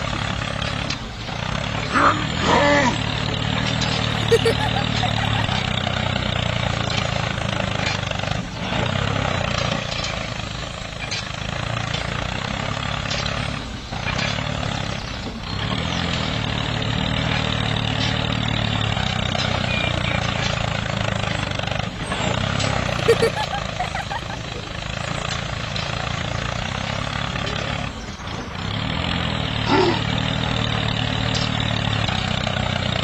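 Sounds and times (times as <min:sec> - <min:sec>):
small tractor motor running: 0:00.0 - 0:33.0.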